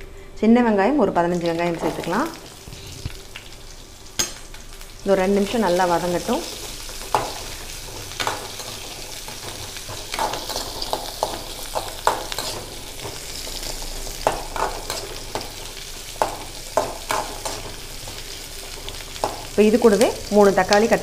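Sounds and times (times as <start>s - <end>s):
spices sizzling in hot oil: 1.2s - 21.0s.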